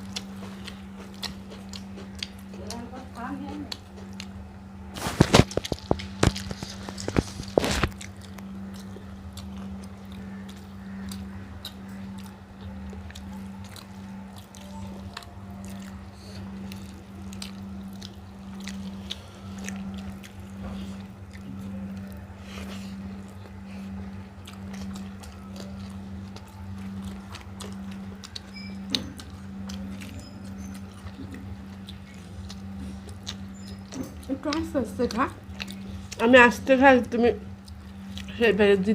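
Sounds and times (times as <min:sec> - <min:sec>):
people chewing: 0:00.0 - 0:38.9
pulsing low hum: 0:00.0 - 0:38.9.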